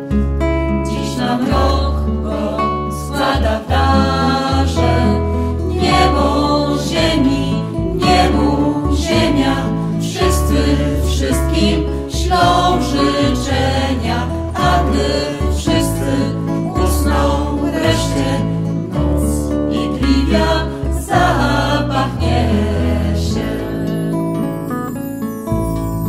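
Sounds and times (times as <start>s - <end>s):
guitar accompaniment: 0.0s - 26.0s
group singing in harmony: 0.8s - 24.4s.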